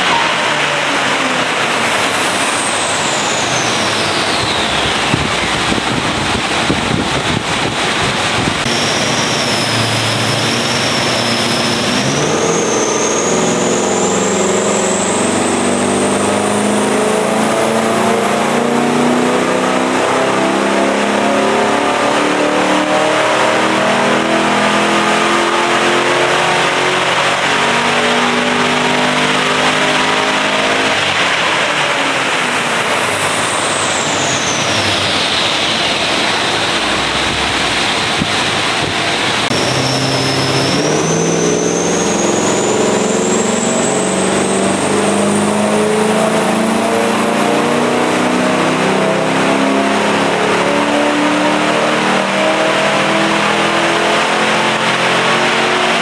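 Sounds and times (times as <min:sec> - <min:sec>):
engine whine on dyno: 0:00.0 - 0:56.0.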